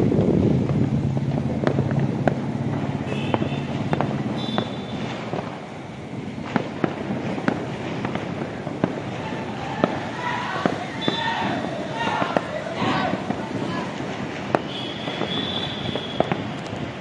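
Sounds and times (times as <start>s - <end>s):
distant firecrackers banging: 0.0s - 17.0s
low steady rumble: 0.0s - 17.0s
whistling fireworks: 0.0s - 17.0s.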